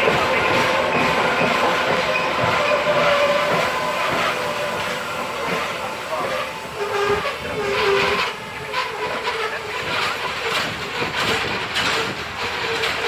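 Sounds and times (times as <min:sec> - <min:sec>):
train rumble: 0:00.0 - 0:13.0
wheels clacking over rail joints: 0:00.0 - 0:13.0.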